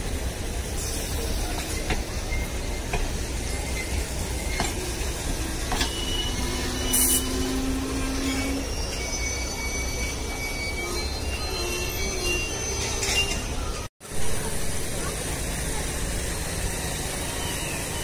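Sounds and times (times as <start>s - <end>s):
train coaches rumbling past: 0.0s - 18.0s.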